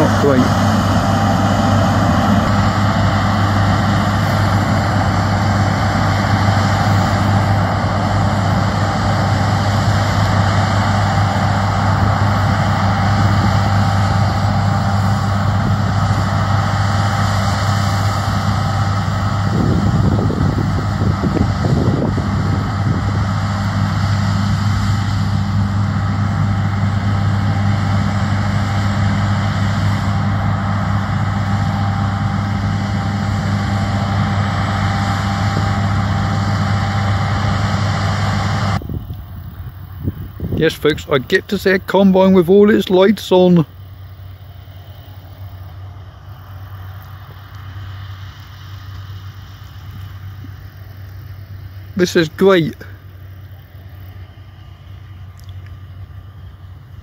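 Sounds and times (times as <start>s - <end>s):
heavy engine droning: 0.0s - 57.0s.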